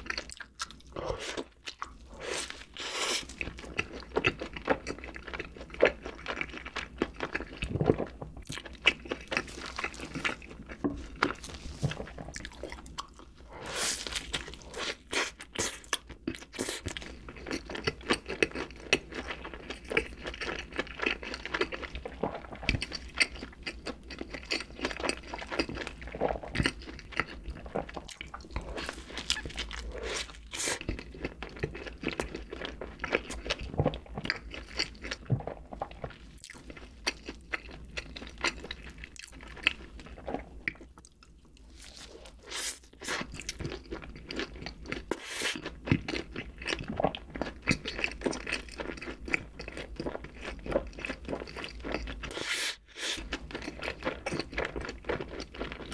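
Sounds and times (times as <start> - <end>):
chewing crunchy food: 0.0 - 55.9.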